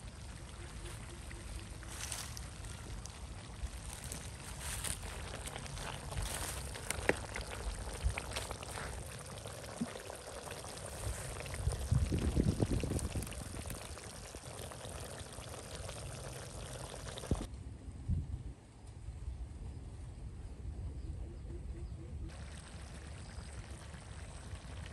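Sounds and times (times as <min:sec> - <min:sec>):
liquid boiling with steady hiss: 0:00.0 - 0:17.5, 0:22.3 - 0:24.9
liquid bubbling or pouring: 0:00.0 - 0:17.5, 0:22.3 - 0:24.9.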